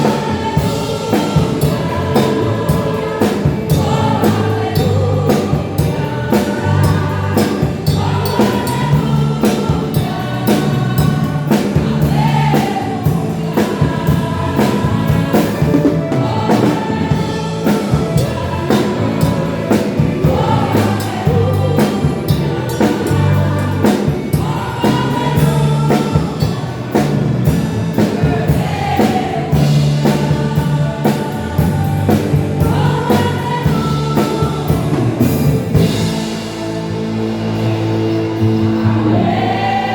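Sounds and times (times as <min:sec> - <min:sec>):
instrumental accompaniment: 0:00.0 - 0:39.9
women's choir singing a hymn: 0:00.0 - 0:39.9.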